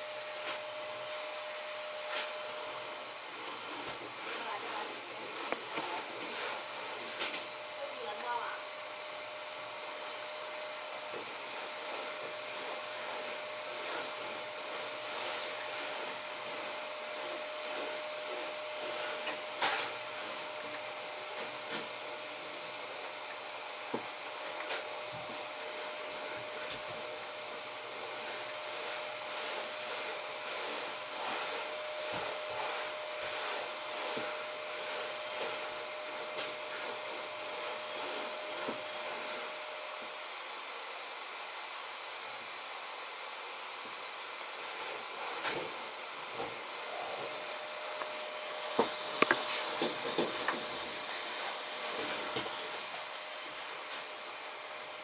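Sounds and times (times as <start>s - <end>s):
thin steady whine: 0.0s - 55.0s.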